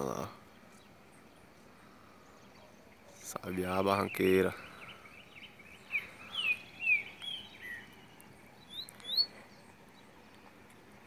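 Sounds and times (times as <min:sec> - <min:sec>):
faint outdoor hiss: 0:00.0 - 0:11.0
songbird singing: 0:00.0 - 0:11.0.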